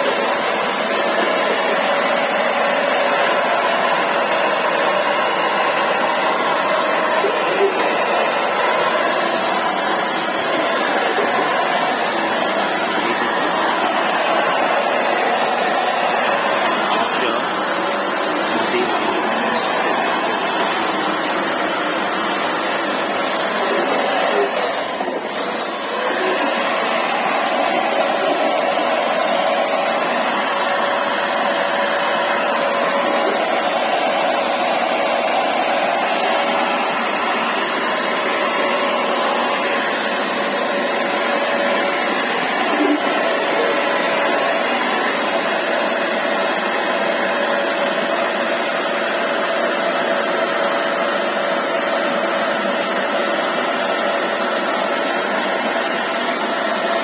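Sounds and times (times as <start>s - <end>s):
motor whine: 0.0s - 47.2s
carpet washer suction motor: 0.0s - 57.0s.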